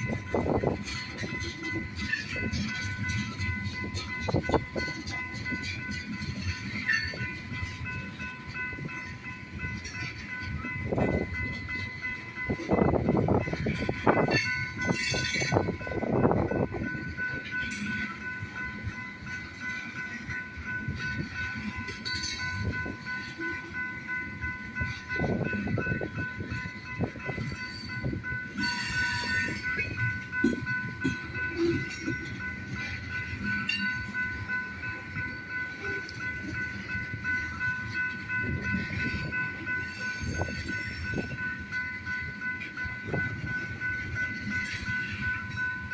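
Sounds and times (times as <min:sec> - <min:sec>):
high ringing tone: 0:00.0 - 0:45.9
train wheels clattering on rails: 0:00.0 - 0:45.9.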